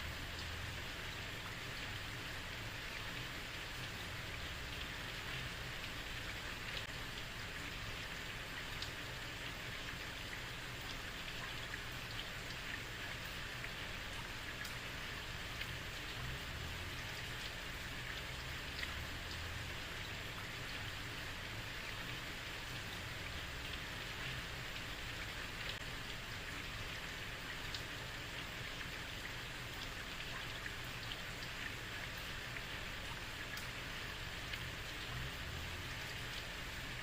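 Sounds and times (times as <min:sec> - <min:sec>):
raindrop splashes: 0:00.0 - 0:37.0.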